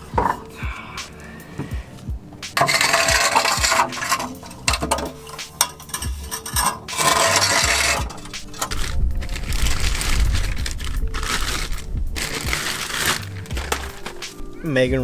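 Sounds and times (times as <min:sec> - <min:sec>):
scraping and rubbing: 0:02.4 - 0:14.6.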